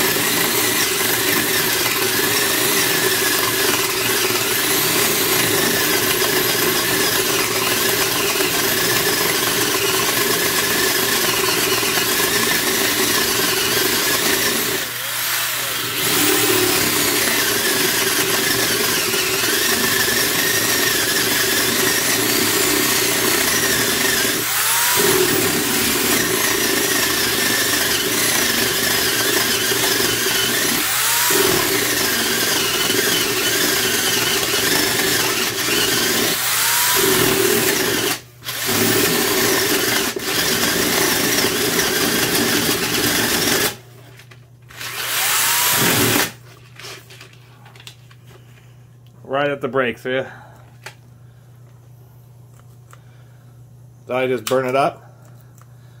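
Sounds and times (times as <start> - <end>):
drill boring into wood: 0.0 - 43.8, 44.7 - 46.4.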